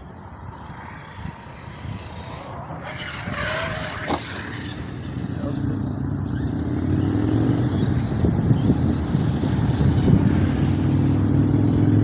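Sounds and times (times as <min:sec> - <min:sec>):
electric rc truck droning: 0:00.0 - 0:12.0.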